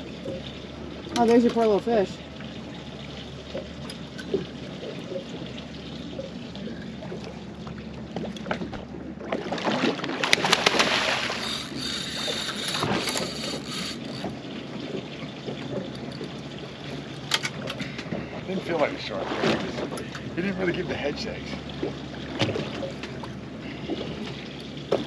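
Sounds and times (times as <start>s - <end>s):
water splashing: 0.0s - 25.0s
wind: 0.0s - 25.0s.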